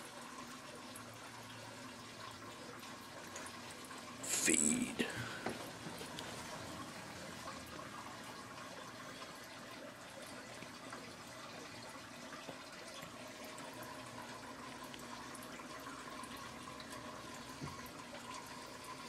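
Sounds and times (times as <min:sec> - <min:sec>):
faint steady hum: 0:00.0 - 0:19.0
water trickling in aquarium: 0:00.0 - 0:19.0.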